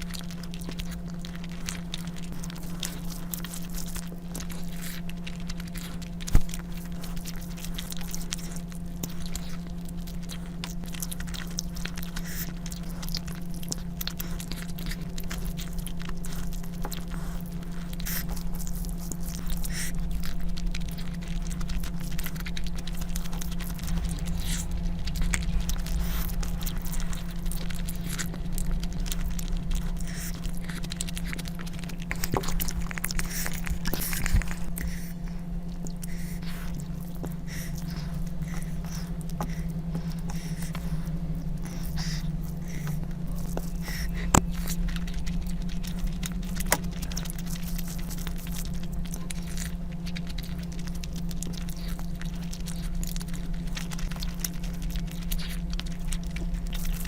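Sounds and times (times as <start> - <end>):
person chewing and eating: 0.0 - 57.0
steady low hum: 0.0 - 57.0.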